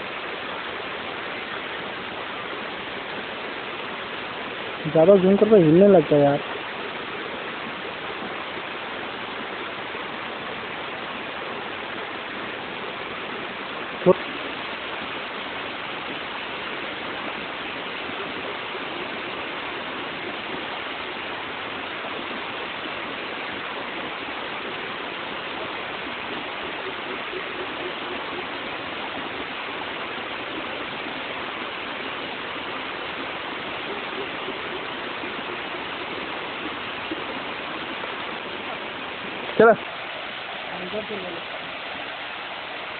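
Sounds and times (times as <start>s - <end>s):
waterfall rushing into pool: 0.0s - 42.9s.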